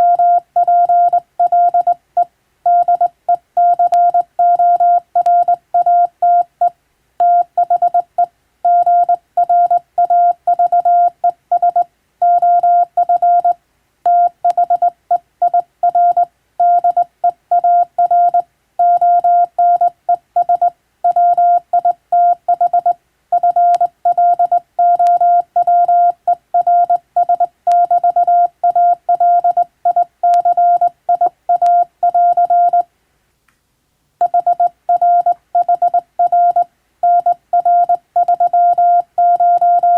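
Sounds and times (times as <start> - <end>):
morse code tone: 0.0 - 2.0, 2.7 - 8.1, 8.7 - 32.8, 34.2 - 39.9.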